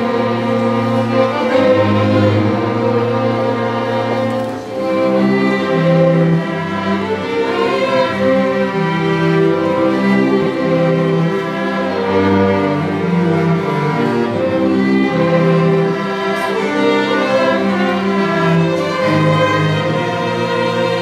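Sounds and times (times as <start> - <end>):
string orchestra playing: 0.0 - 21.0.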